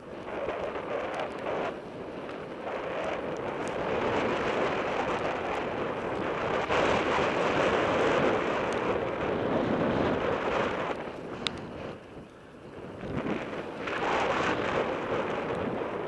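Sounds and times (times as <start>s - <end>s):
bike tyres rolling on gravel: 0.0s - 16.0s
wind rushing over microphone: 0.0s - 16.0s.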